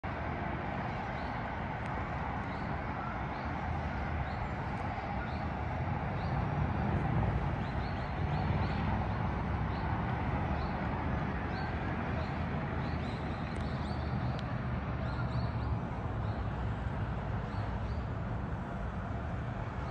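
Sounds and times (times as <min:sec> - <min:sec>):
distant traffic rumble: 0:00.0 - 0:19.9.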